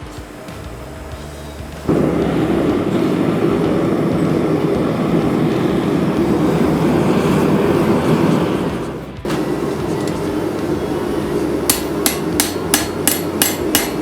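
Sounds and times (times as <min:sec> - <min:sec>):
forge roaring rush of air: 0:01.8 - 0:14.0.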